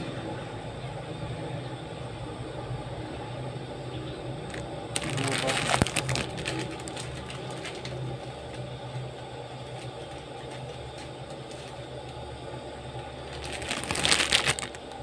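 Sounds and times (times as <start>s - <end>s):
pot of soup cooking: 0.0s - 15.0s.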